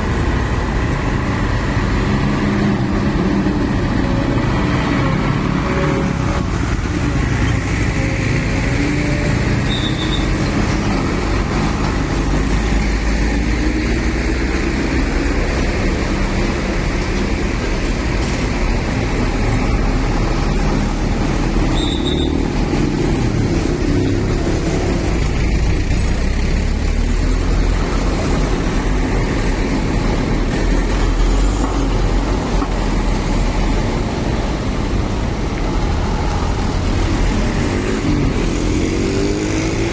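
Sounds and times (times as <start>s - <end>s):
truck diesel engines rumbling: 0.0s - 39.9s.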